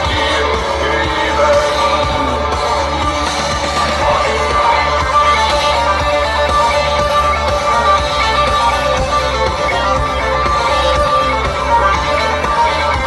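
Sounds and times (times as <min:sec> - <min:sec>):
instrumental rock guitar: 0:00.0 - 0:13.0
low bass: 0:00.0 - 0:13.0.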